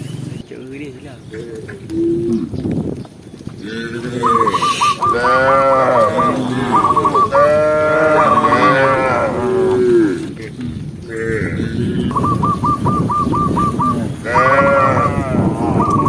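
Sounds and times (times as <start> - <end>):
cows mooing: 1.3 - 2.6, 3.5 - 16.0.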